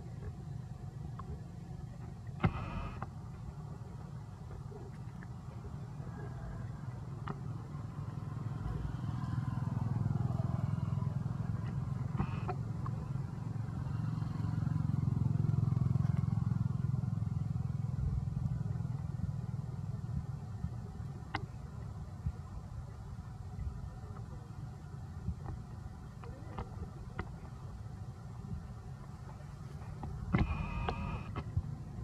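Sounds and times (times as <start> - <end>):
passing motor vehicles rumbling: 0.0 - 32.0.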